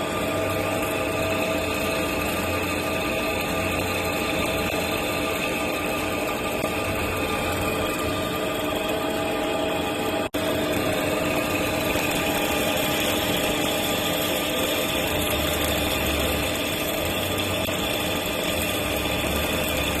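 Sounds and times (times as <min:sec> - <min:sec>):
cnc machine running: 0:00.0 - 0:20.0.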